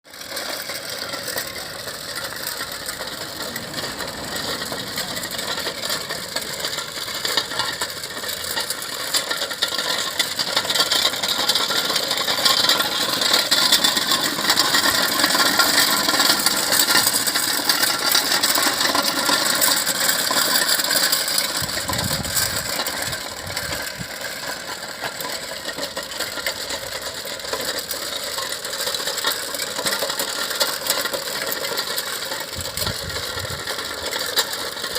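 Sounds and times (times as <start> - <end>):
road roller gears clattering: 0.1 - 34.9.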